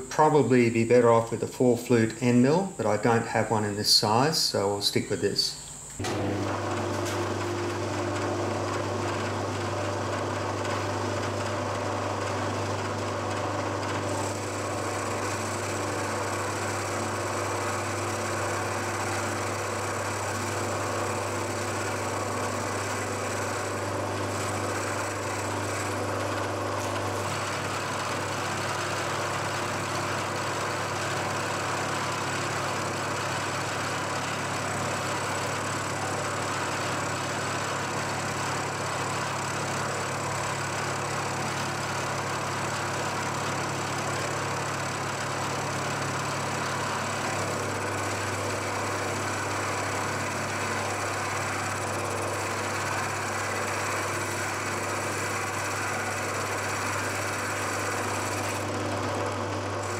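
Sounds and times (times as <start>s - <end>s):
milling machine cutting steel: 6.0s - 59.9s.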